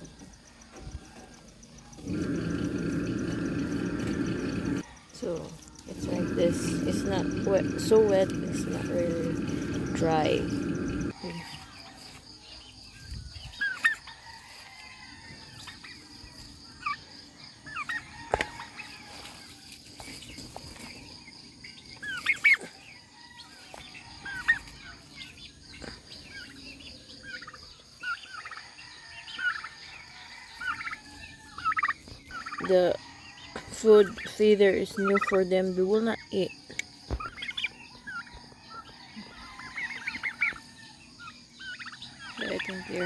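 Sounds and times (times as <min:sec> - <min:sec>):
turkeys calling: 0:01.9 - 0:11.5, 0:13.6 - 0:14.2, 0:16.7 - 0:19.4, 0:20.0 - 0:29.7, 0:30.6 - 0:43.0.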